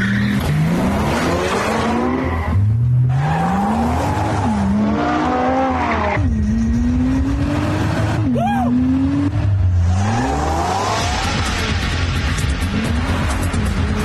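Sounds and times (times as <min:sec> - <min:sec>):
car engine accelerating hard: 0:00.3 - 0:14.0.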